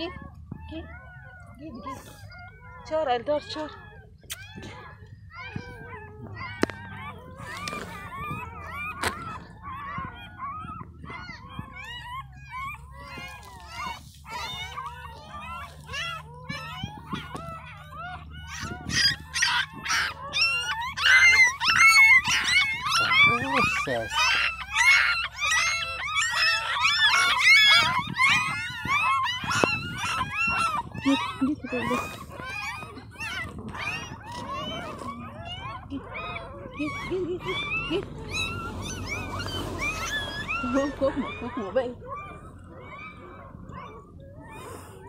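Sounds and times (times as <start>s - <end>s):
puppies whimpering and squealing: 0.0s - 45.0s.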